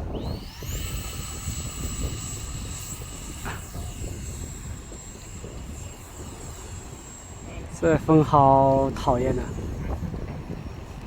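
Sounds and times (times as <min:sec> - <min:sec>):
model airplane motor whine: 0:00.0 - 0:11.0
wind on microphone: 0:00.0 - 0:11.0.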